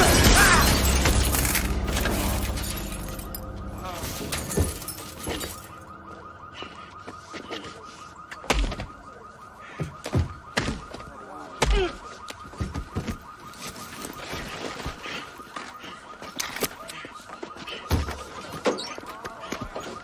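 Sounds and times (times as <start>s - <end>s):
car alarm warbling: 0.0s - 20.0s.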